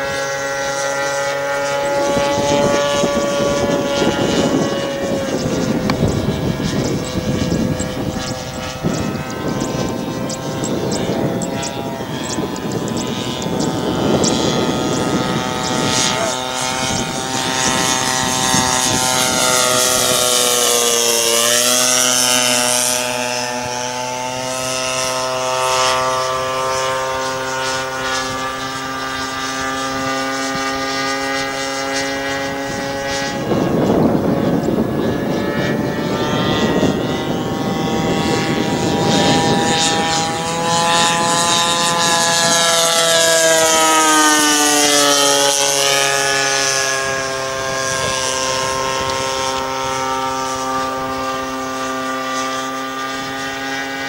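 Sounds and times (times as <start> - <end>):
model plane engine droning: 0.0 - 54.0.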